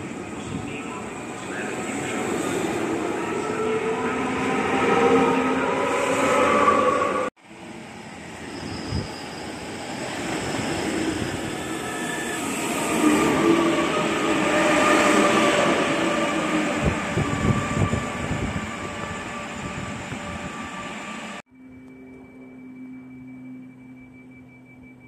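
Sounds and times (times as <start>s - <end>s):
train passing with whine: 0.0s - 25.0s.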